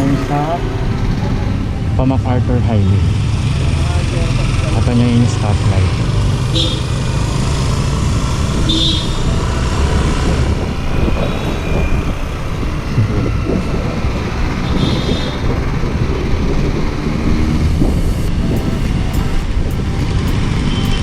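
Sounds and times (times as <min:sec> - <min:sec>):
highway traffic rumble: 0:00.0 - 0:21.0.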